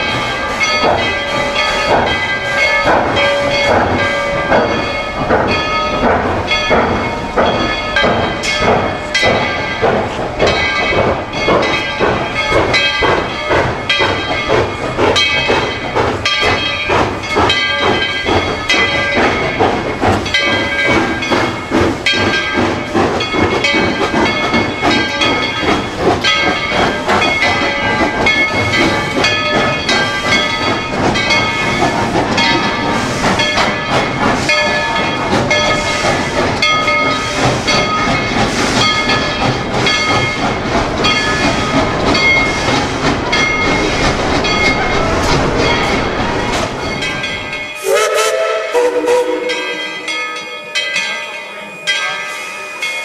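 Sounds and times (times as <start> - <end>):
steam hissing: 0.0 - 52.9.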